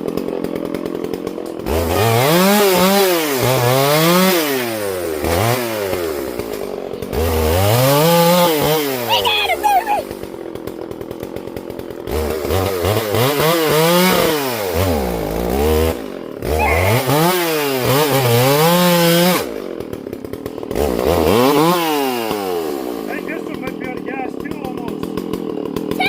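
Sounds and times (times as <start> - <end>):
chainsaw revving and cutting: 0.0 - 26.0.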